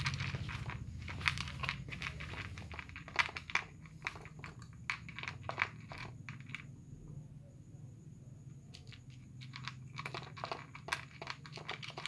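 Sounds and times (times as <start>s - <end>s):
cats crunching dry food: 0.0s - 6.7s, 8.8s - 12.0s.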